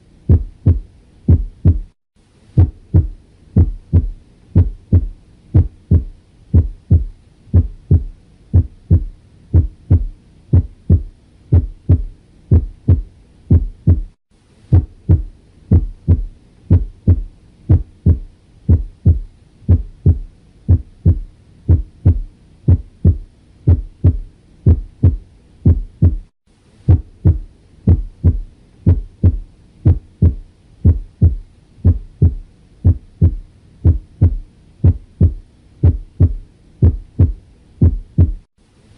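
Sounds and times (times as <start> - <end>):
heartbeat through stethoscope: 0.3 - 2.0, 2.6 - 26.3, 26.9 - 38.5.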